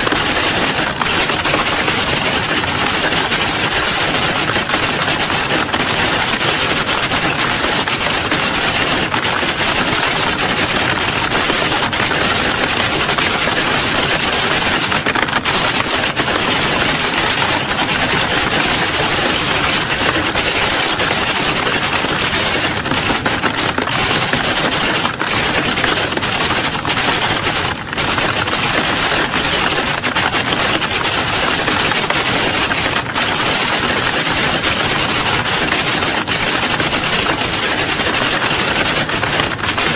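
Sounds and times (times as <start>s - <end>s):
many people typing: 0.0s - 39.9s.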